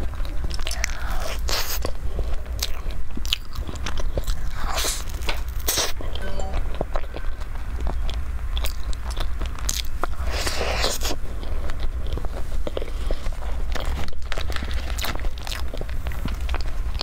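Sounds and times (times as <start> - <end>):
person chewing with wet smacks: 0.0 - 6.2, 6.9 - 17.0
steady low hum: 0.0 - 17.0.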